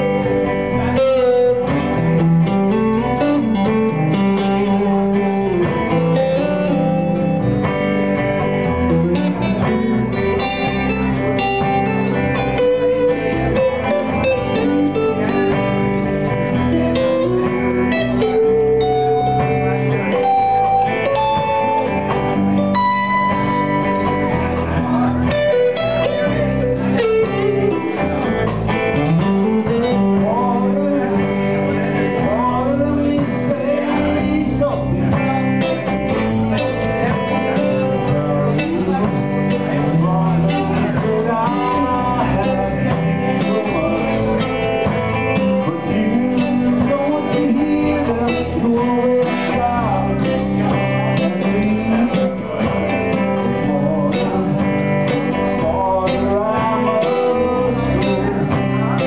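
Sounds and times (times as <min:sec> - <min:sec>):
blues band playing: 0:00.0 - 0:59.0
electric guitars bending notes: 0:00.0 - 0:59.0.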